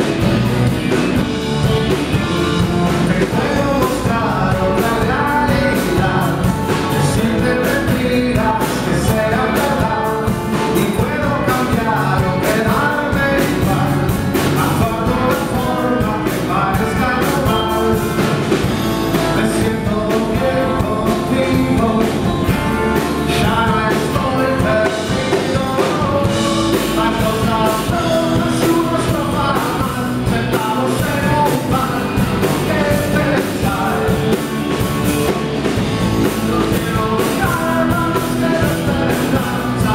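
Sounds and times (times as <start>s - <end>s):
drums: 0.0s - 39.9s
guitars: 0.0s - 39.9s
person singing: 1.2s - 39.9s.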